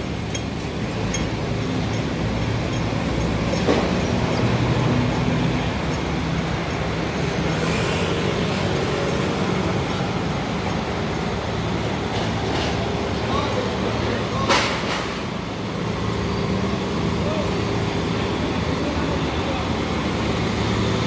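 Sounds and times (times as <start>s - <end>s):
road noise hiss: 0.0s - 21.0s
vehicle engines rumbling: 0.0s - 21.0s.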